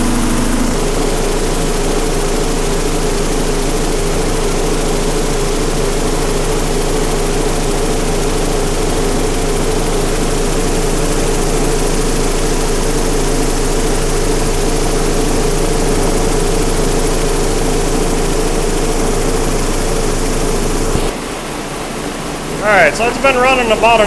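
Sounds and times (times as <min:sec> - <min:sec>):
vibratory tumbler drone: 0:00.0 - 0:24.0.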